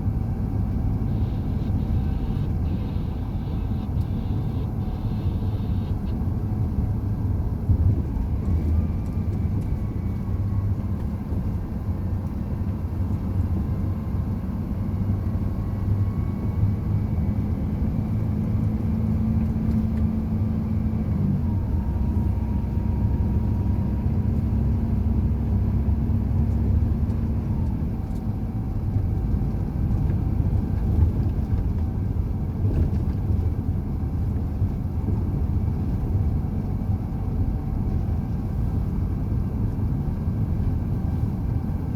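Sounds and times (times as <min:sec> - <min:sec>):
heavy truck engine drone: 0:00.0 - 0:41.9.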